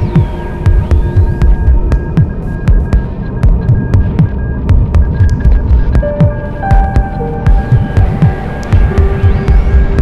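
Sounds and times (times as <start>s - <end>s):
deep pulsing bass hits: 0.0s - 10.0s
held synth notes: 0.0s - 10.0s.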